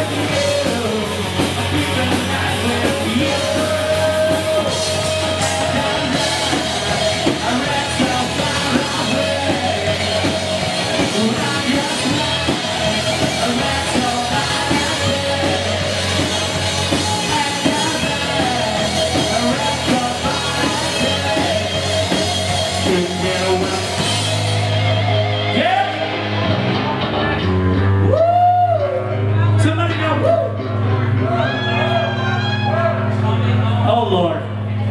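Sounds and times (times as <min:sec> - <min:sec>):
live rock band with singing: 0:00.0 - 0:34.9.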